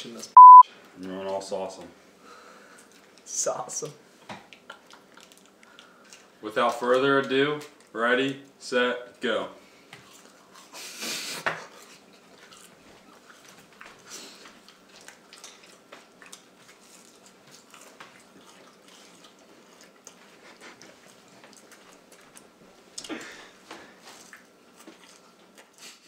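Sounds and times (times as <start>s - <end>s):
people chewing food: 0.8s - 3.4s, 4.0s - 8.6s, 9.6s - 26.0s.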